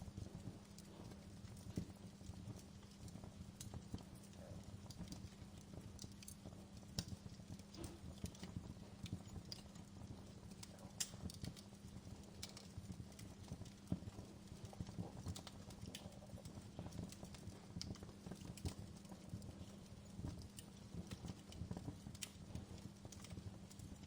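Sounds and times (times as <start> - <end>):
low steady fire rumble: 0.0 - 24.0
wood fire crackling and popping: 0.0 - 24.0.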